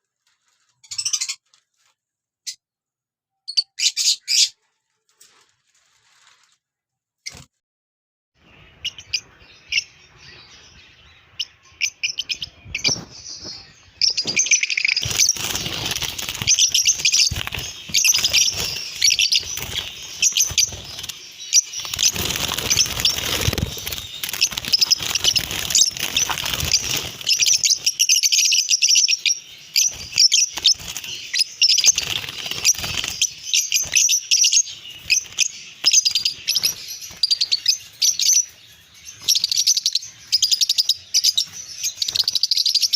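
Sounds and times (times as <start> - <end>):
birds chattering and chirping: 0.4 - 1.6, 3.5 - 4.7, 8.4 - 42.9.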